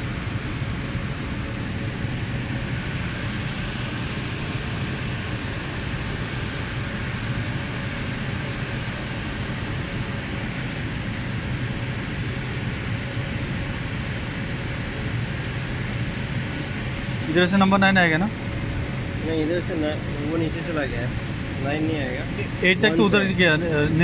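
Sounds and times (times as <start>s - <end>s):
air conditioning rush: 0.0s - 24.0s.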